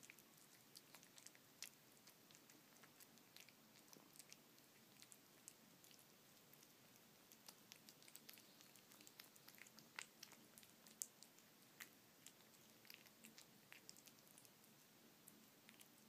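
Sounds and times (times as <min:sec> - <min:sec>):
cat chewing and licking: 0:00.0 - 0:16.0.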